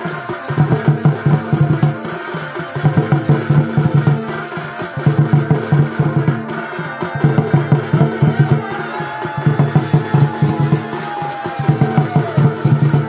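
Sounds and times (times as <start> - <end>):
fast driving drum beats: 0.0 - 13.0.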